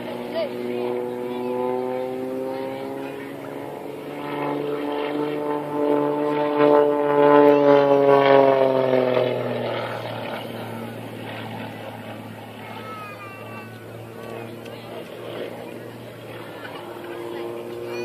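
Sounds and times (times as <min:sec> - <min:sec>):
propeller plane passing overhead: 0:00.0 - 0:18.0.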